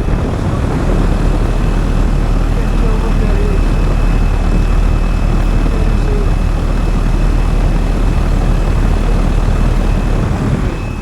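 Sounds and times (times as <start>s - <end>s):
air conditioner whooshing hum: 0.0s - 11.0s.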